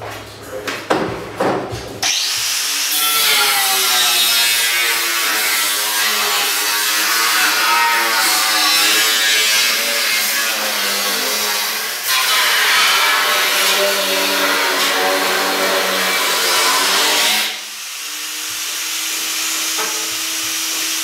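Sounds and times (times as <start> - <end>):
angle grinder cutting metal: 2.0 - 21.0.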